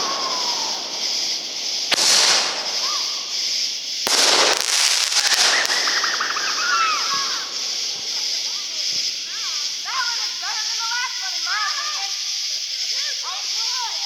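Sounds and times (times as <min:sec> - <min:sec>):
fireworks bangs: 0:00.0 - 0:12.2
fireworks crackling: 0:00.0 - 0:14.0
fireworks hissing spray: 0:00.0 - 0:14.0.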